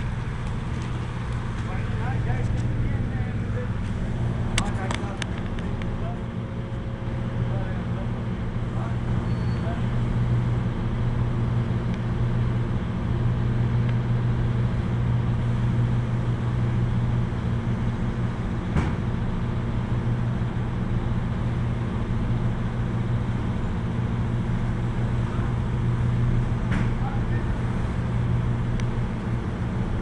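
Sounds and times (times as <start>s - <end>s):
air compressor droning: 0.0s - 30.0s.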